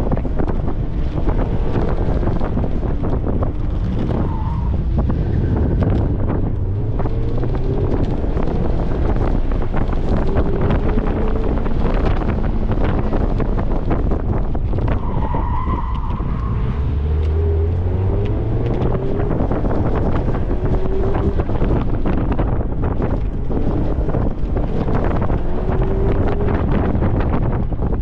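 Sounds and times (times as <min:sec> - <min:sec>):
tires squealing: 0:00.0 - 0:27.9
car engine accelerating: 0:00.0 - 0:28.0
wind buffeting: 0:00.0 - 0:28.0.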